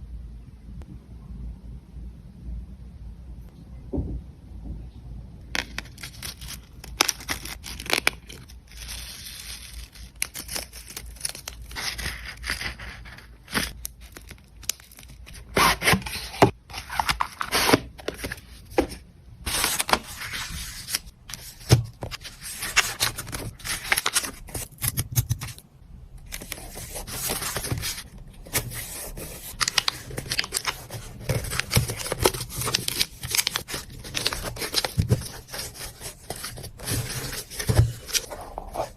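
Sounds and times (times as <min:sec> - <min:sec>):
packaging material crinkling: 0:05.6 - 0:18.9, 0:19.5 - 0:25.6, 0:26.2 - 0:38.9.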